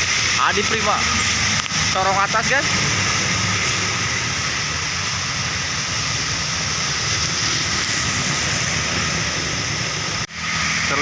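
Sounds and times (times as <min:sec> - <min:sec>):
bus engines passing: 0:00.0 - 0:11.0
road traffic roar: 0:00.0 - 0:11.0.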